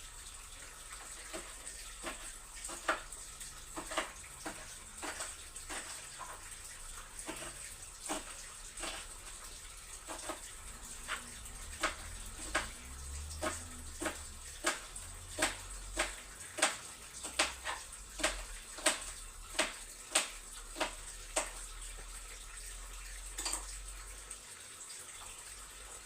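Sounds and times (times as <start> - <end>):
tap water running into sink: 0.0 - 26.0.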